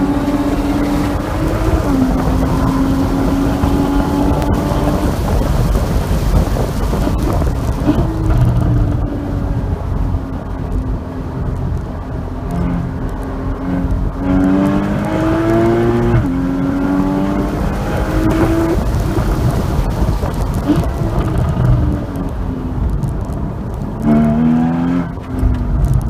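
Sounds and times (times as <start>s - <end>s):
car engine pulling hard: 0.0s - 26.0s
wind and road noise: 0.0s - 26.0s.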